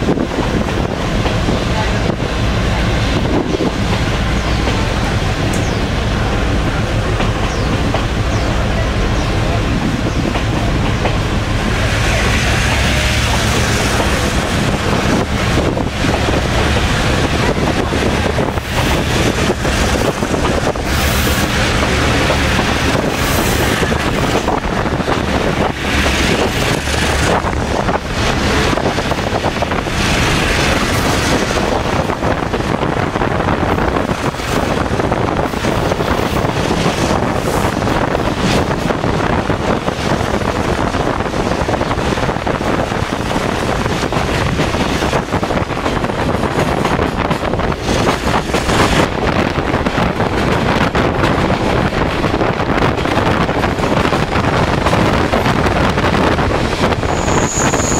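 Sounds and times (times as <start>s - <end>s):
train running on rails: 0.0s - 57.9s
wind rushing over microphone: 0.0s - 57.9s.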